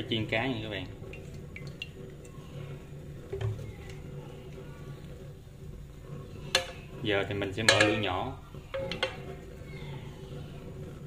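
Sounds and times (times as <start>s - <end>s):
oil pouring into frying pan: 0.0s - 9.7s.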